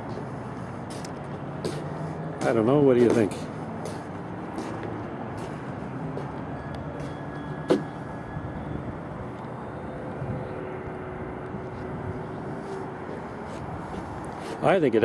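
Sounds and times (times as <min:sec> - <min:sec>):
rushing wind: 0:00.0 - 0:15.0
wind turbine whirring: 0:00.0 - 0:15.0.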